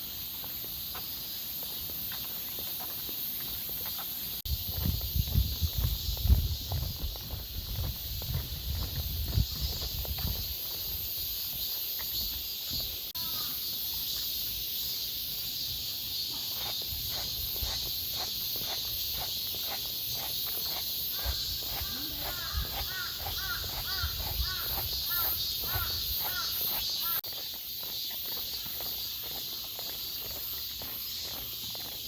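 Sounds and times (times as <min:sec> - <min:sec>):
cicadas chorus: 0:00.0 - 0:32.0
footsteps walking: 0:00.3 - 0:13.1, 0:16.6 - 0:32.0.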